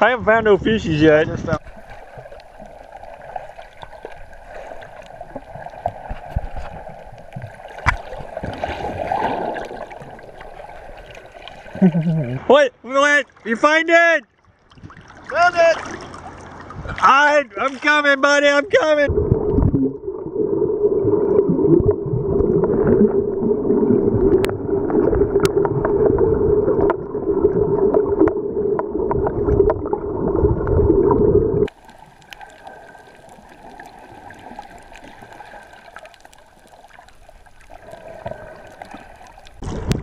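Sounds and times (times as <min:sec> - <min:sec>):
underwater rushing and gurgling: 0:00.0 - 0:12.5, 0:18.8 - 0:40.0.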